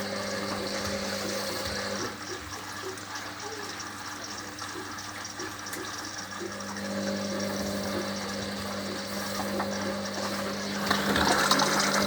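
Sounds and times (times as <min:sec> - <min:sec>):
washer dryer motor humming: 0:00.0 - 0:12.0.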